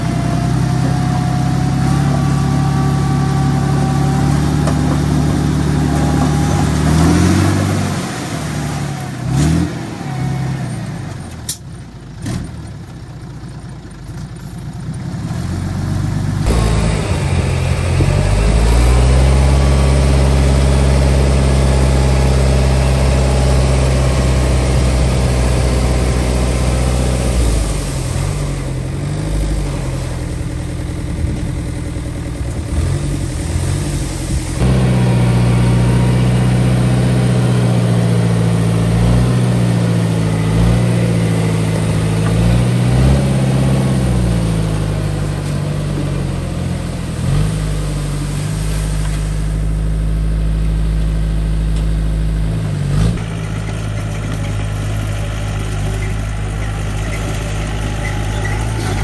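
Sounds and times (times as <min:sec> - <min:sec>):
diesel machinery engine revving: 0:00.0 - 0:13.0, 0:15.0 - 0:59.0.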